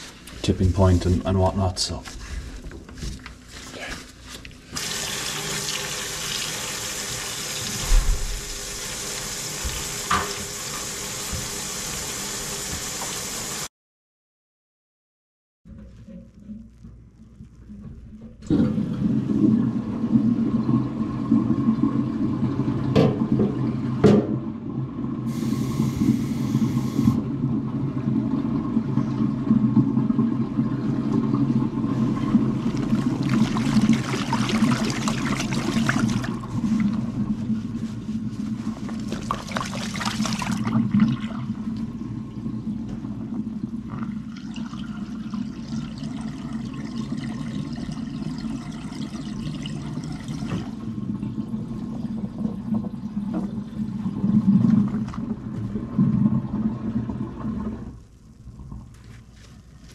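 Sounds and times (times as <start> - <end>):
water draining through sink plumbing: 4.0 - 13.6, 15.7 - 59.9.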